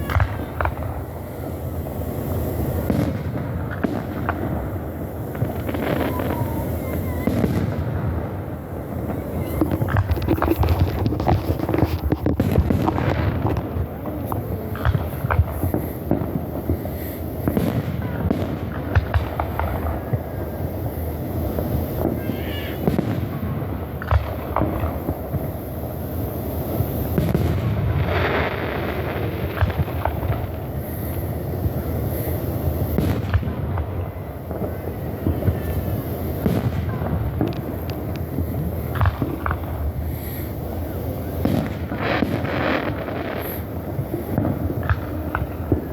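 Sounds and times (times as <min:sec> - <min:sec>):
firework shells bursting: 0:00.0 - 0:45.9.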